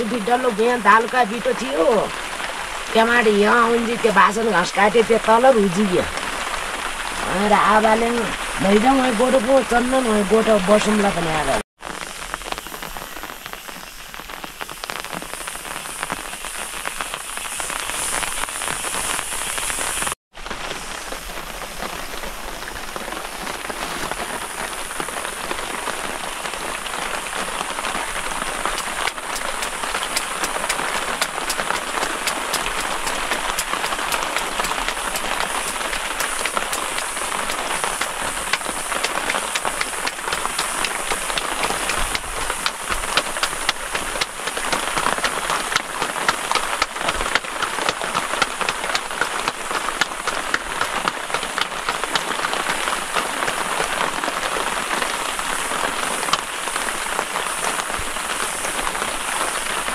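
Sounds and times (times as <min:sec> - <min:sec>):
rain on a plastic tarpaulin: 0:00.0 - 0:59.9.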